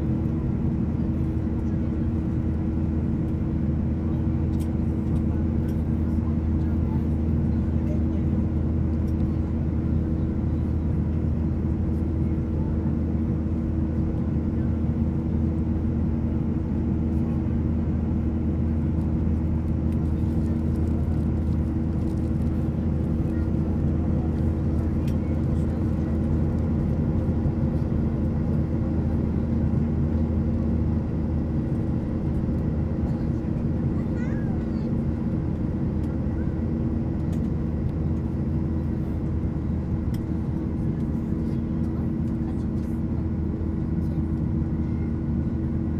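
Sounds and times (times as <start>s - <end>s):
airliner cabin engine hum: 0.0s - 45.9s.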